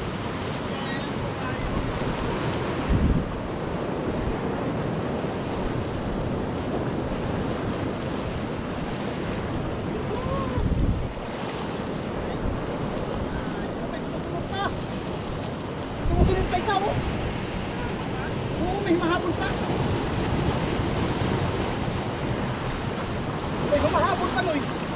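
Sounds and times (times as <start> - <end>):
surf breaking over rocks: 0.0 - 24.9
wind rumbling on microphone: 0.0 - 24.9.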